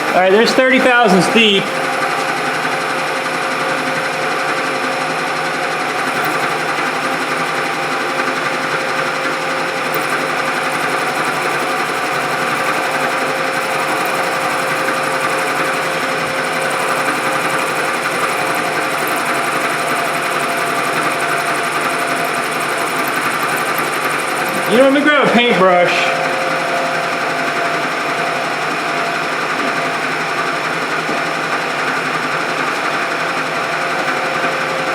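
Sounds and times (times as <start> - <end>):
milling machine cutting metal: 0.0 - 34.9.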